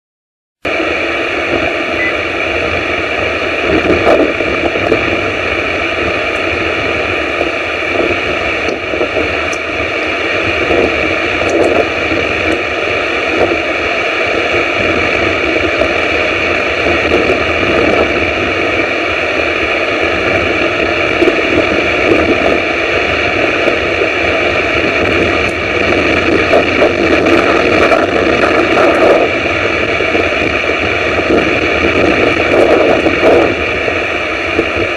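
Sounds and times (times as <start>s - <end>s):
wind and rain on microphone: 0.6s - 34.9s.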